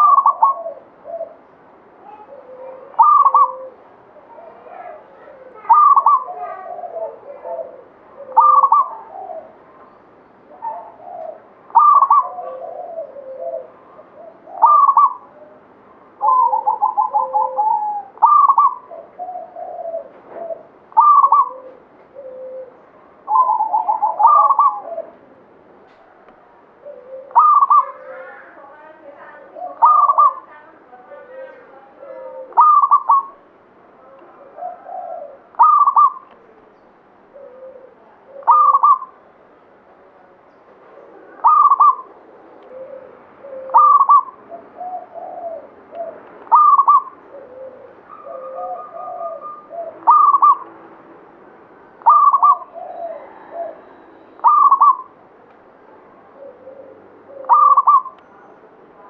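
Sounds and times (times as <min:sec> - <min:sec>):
dove cooing: 0:00.0 - 0:36.4, 0:37.3 - 0:39.2, 0:40.8 - 0:50.8, 0:51.9 - 0:55.2, 0:56.2 - 0:58.2.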